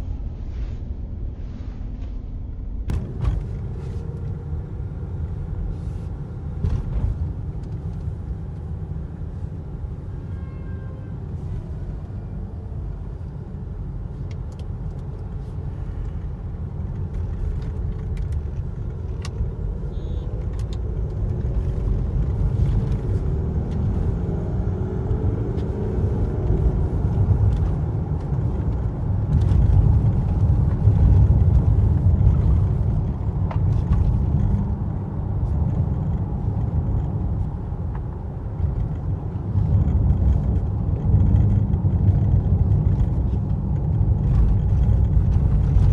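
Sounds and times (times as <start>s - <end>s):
low road rumble: 0.0s - 45.9s.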